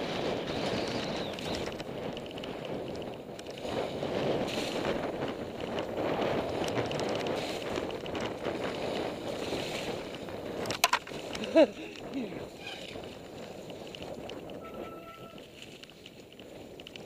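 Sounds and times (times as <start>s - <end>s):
bike clicks and rattles: 0.0s - 17.0s
wind rushing over microphone: 0.0s - 17.0s.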